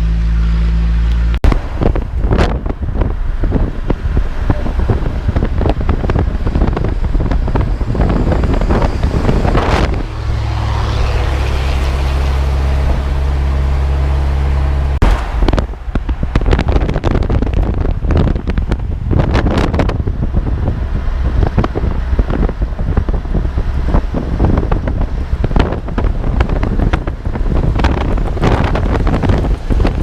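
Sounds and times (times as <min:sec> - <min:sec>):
steady low drone: 0:00.0 - 0:30.0
truck driving: 0:00.0 - 0:30.0
wind buffeting microphone: 0:01.3 - 0:30.0.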